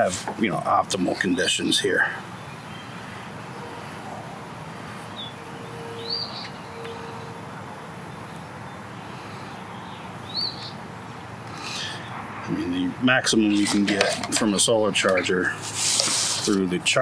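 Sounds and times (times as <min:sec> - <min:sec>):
outdoor background noise: 0:00.0 - 0:17.0
bird chirping: 0:00.8 - 0:15.7.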